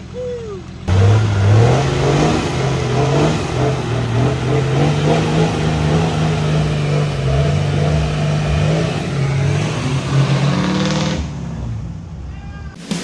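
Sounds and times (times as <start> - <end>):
off-road vehicle engine revving: 0.0 - 12.3.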